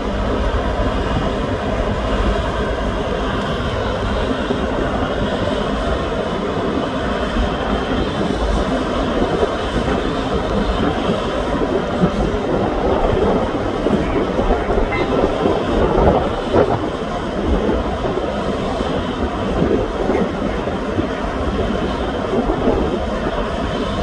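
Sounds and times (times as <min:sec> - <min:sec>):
heavy machinery rumble and clatter: 0:00.0 - 0:24.0.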